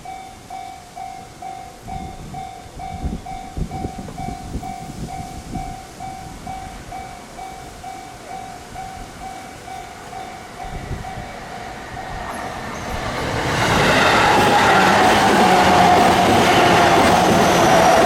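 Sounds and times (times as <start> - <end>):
railroad crossing bell ringing: 0.0 - 18.0
train passing: 0.0 - 18.0.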